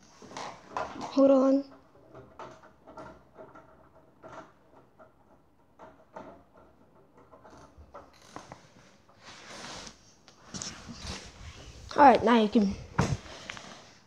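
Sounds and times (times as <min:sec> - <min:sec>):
window blinds clicking and rattling: 0:00.0 - 0:11.3.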